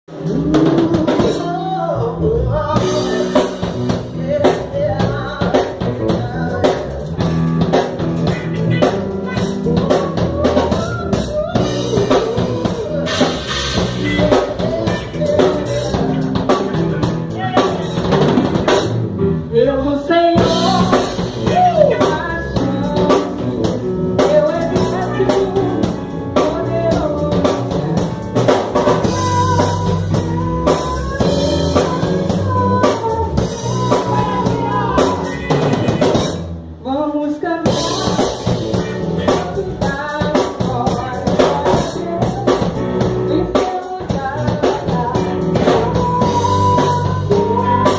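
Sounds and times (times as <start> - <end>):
live band playing: 0.1 - 47.9
woman singing: 0.3 - 7.0, 7.8 - 18.2, 19.5 - 47.9.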